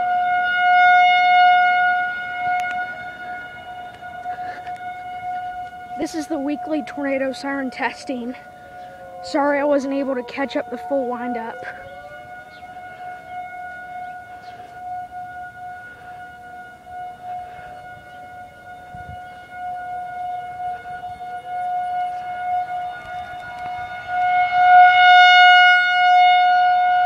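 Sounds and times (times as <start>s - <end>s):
distant wailing siren: 0.0s - 27.0s
rotating warning siren: 0.0s - 27.0s.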